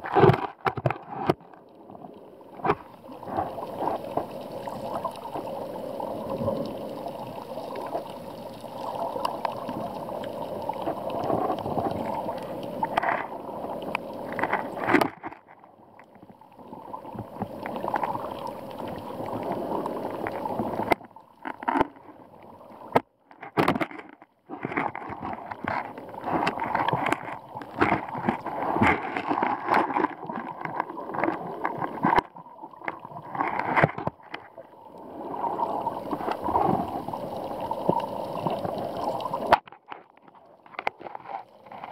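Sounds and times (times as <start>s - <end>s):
underwater seawater sloshing: 0.0s - 23.0s, 23.6s - 41.9s
underwater crackles and clicks: 0.0s - 41.9s.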